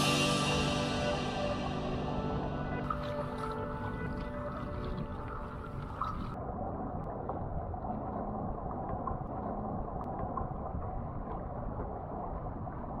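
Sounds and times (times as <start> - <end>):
muffled rush of wind and water: 0.0 - 13.0.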